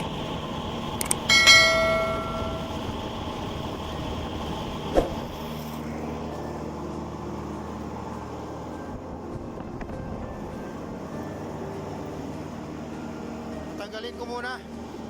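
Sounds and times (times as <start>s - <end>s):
fan motor rumbling: 0.0s - 15.0s.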